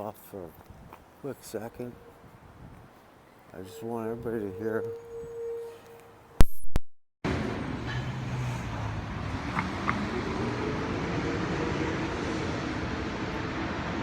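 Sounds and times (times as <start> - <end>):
distant traffic rumble and hiss: 0.0 - 5.1, 7.3 - 14.0.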